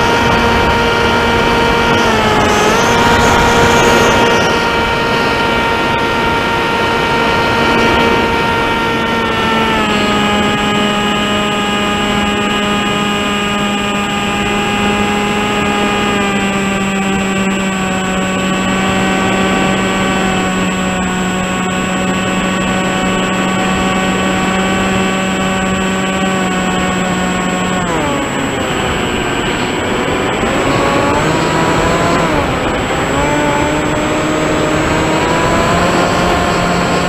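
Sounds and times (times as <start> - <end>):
electric motor and propeller whine: 0.0 - 37.0.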